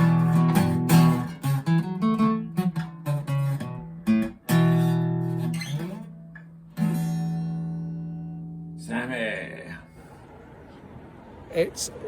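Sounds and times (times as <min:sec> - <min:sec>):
acoustic guitar strumming: 0:00.0 - 0:10.2.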